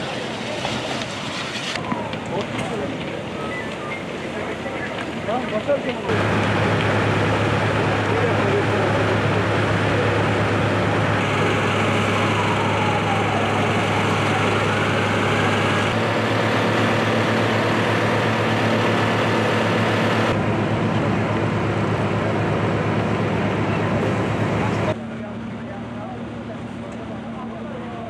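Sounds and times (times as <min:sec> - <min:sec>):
fire engine pump drone: 0:00.0 - 0:28.0.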